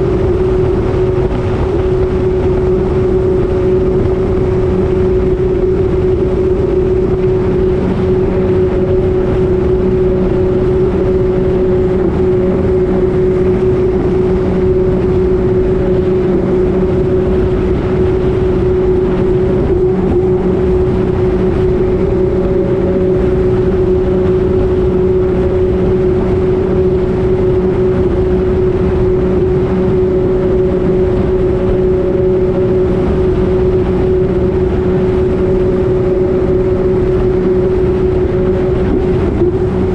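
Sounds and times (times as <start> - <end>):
jet ski engine running: 0.0 - 39.9
loud rushing noise: 0.0 - 39.9.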